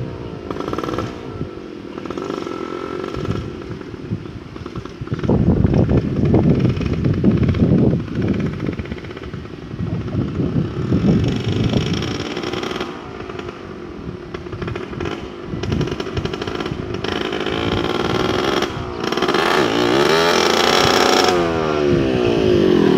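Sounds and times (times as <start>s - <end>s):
motorcycle engine approaching: 0.0s - 22.9s.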